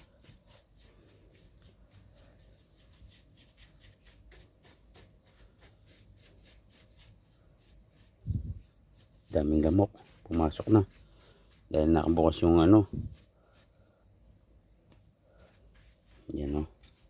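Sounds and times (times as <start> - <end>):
brush scrubbing: 0.0 - 14.1, 15.2 - 17.0.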